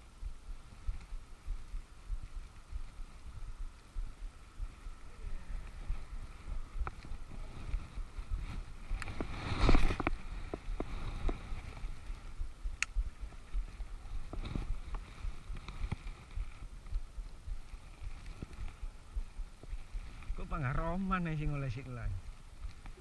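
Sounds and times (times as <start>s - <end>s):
low microphone rumble: 0.0s - 23.0s
rustle: 0.0s - 23.0s.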